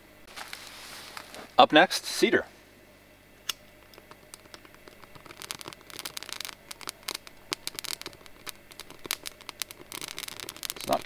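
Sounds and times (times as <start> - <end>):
dry needles crackling in flame: 0.2 - 2.5, 3.2 - 11.0.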